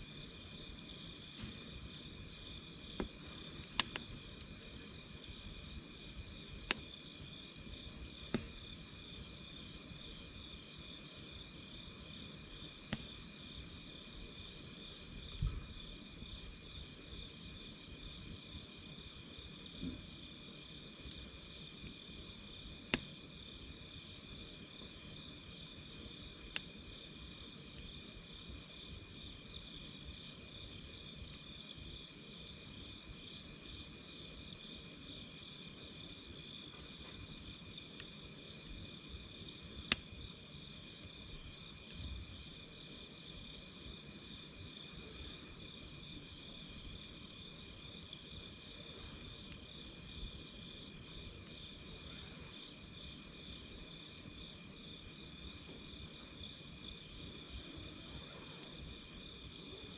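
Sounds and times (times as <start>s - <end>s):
campfire crackling pops: 0.0s - 59.9s.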